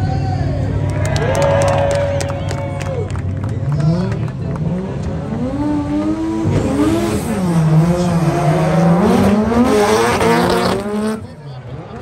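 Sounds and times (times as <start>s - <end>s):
car engines revving high: 0.6s - 12.0s.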